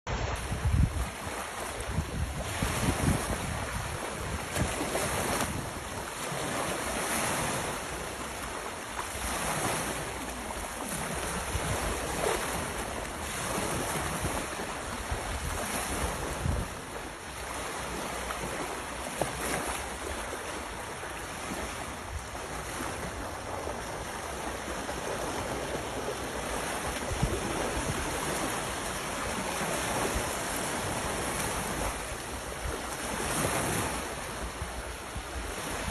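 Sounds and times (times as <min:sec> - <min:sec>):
sea waves washing onto shore: 0:00.1 - 0:35.9
wind buffeting microphone: 0:00.1 - 0:35.9.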